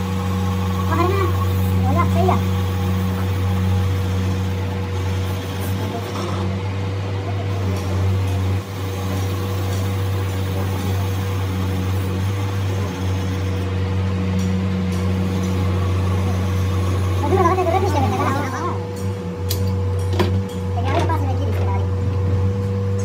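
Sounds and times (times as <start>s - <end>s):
metal lathe humming: 0.0s - 21.2s.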